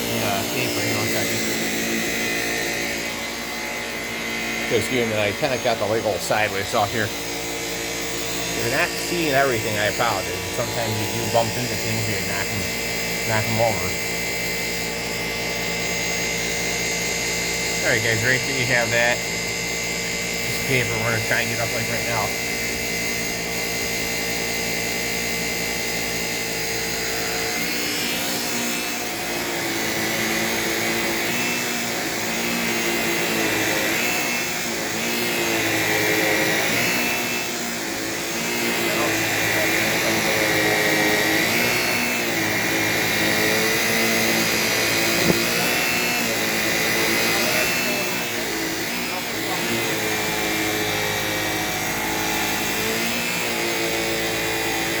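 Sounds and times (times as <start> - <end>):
vacuum cleaner motor whine: 0.0 - 55.0.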